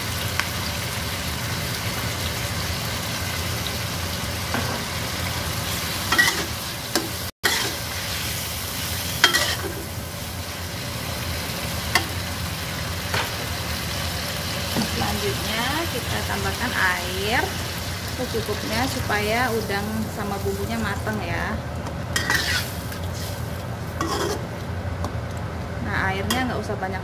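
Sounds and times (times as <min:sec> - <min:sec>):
food frying in a wok: 0:00.0 - 0:27.0.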